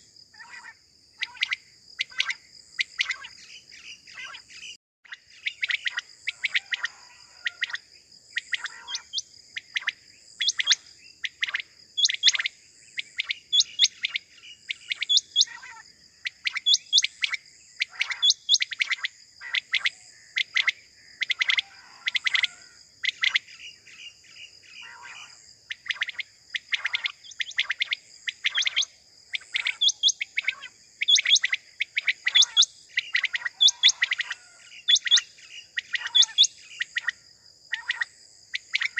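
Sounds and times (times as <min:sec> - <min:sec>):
quail calling: 0:00.0 - 0:04.5, 0:05.1 - 0:07.8, 0:08.4 - 0:12.5, 0:13.1 - 0:23.7, 0:24.8 - 0:38.9.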